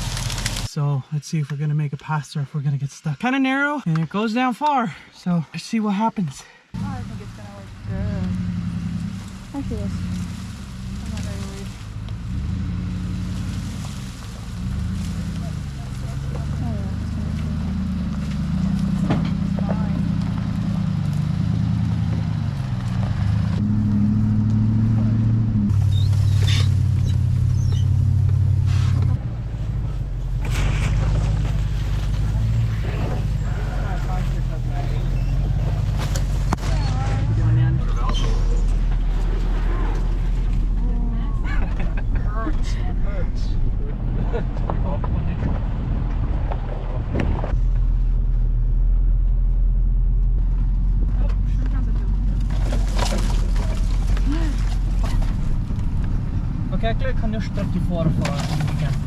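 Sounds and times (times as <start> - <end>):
truck engine under load: 6.8 - 59.0.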